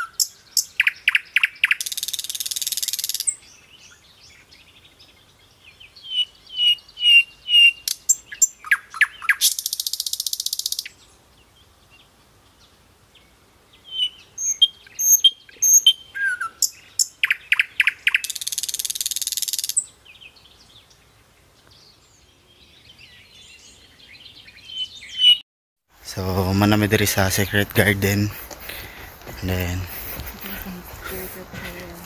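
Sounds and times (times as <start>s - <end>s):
songbird singing: 0.0s - 25.4s, 26.0s - 32.0s.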